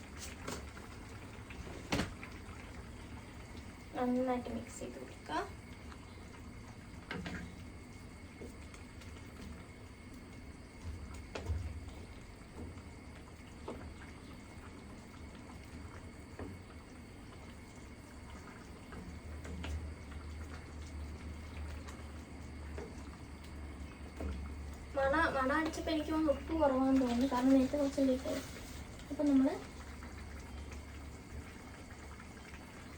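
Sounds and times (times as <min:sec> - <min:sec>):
curry bubbling in a pot: 0:00.0 - 0:32.9.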